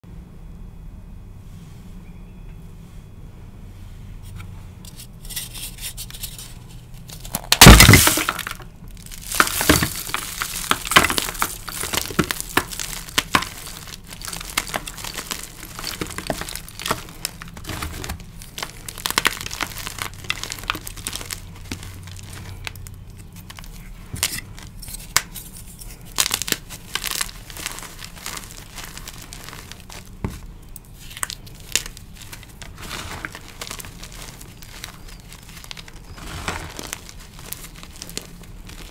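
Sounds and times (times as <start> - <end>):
chalk crunching and crumbling: 4.2 - 38.9
chalk block cracking: 4.9 - 38.9.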